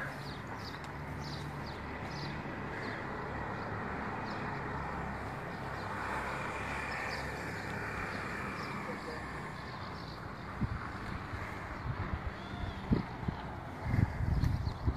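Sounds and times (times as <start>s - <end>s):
distant traffic rush: 0.0s - 14.9s
small birds chirping: 0.0s - 14.9s.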